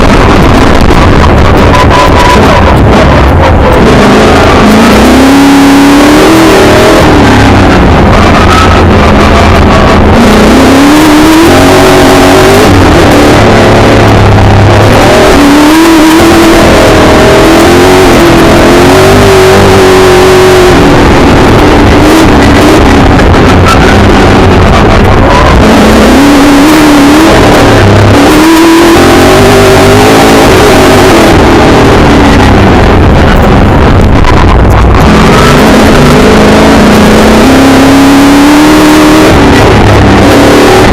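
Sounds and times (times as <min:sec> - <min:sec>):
constant rush of noise: 0:00.0 - 0:40.9
racing engine revving: 0:00.0 - 0:40.9.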